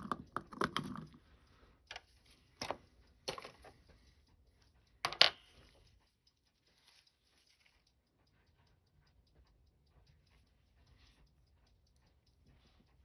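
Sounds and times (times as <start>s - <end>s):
small tools clicking and tapping: 0.0s - 13.0s
faint small ticks: 1.0s - 13.0s.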